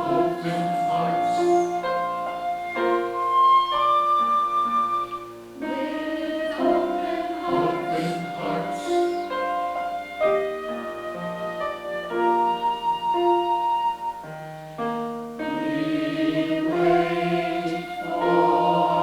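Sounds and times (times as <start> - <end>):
choir singing held chords: 0.0 - 14.3, 15.3 - 19.0.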